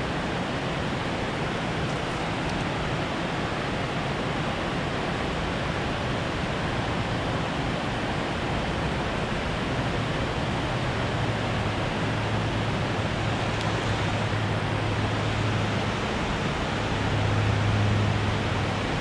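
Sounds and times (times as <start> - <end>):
water rushing over spillway: 0.0 - 19.0.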